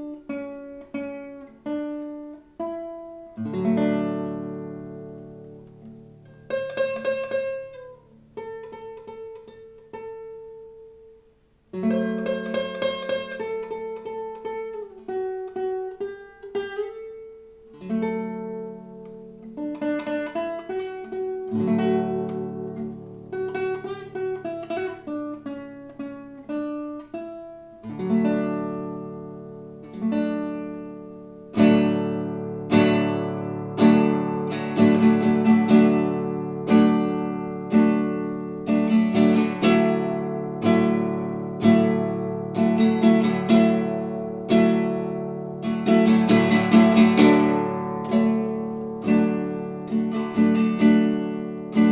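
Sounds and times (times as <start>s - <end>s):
classical guitar plucked notes: 0.0s - 51.9s.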